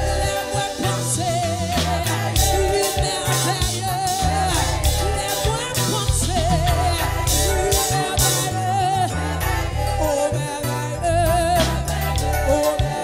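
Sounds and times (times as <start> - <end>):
steady bass line: 0.0 - 13.0
woman singing with vibrato: 0.0 - 13.0.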